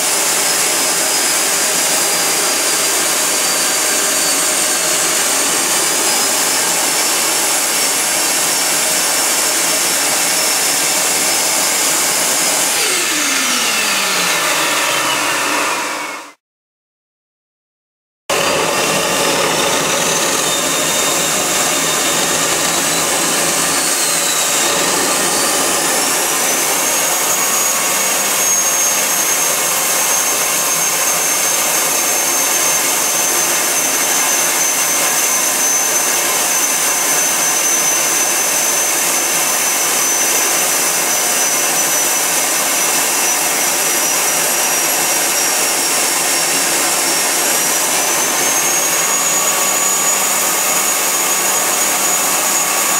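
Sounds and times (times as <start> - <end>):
gas turbine roaring with whine: 0.0 - 16.4, 18.3 - 52.9.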